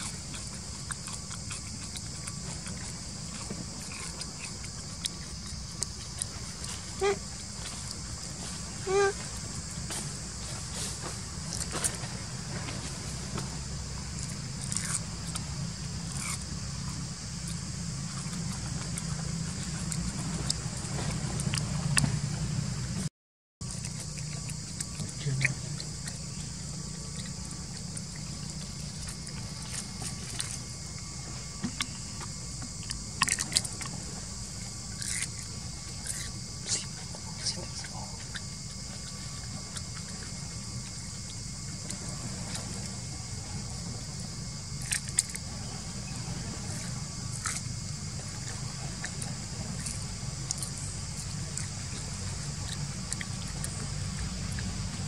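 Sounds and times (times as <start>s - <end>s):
monkey chewing crisp crunches: 0.0s - 55.0s.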